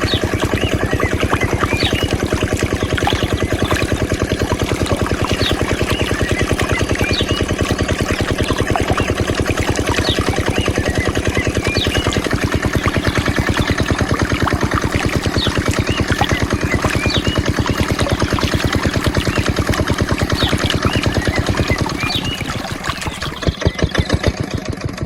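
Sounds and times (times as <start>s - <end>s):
diesel engine knocking: 0.0s - 25.0s.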